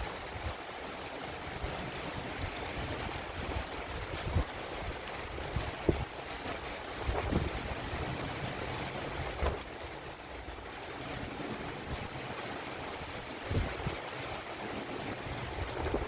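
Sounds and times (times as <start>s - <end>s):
rough sea surf rushing: 0.0s - 16.0s
storm wind: 0.0s - 16.0s
wind buffeting microphone: 1.4s - 16.0s.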